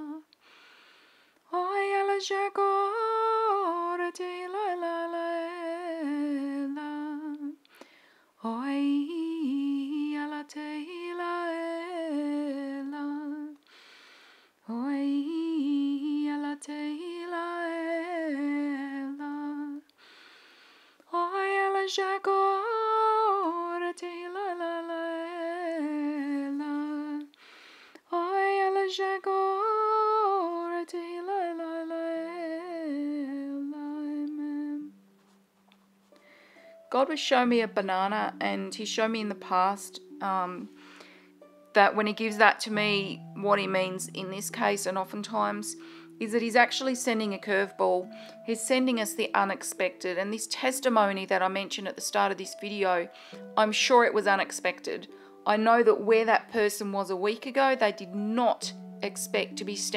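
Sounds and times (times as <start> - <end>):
woman singing unaccompanied: 0.0 - 0.4, 1.5 - 7.6, 8.4 - 13.6, 14.6 - 19.9, 21.1 - 27.4, 28.0 - 35.0, 36.9 - 40.8, 41.7 - 59.9.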